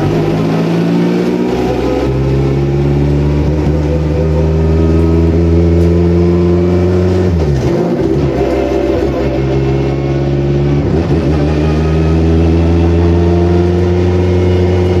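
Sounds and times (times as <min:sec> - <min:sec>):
turbocharged car engine running hard: 0:00.0 - 0:15.0.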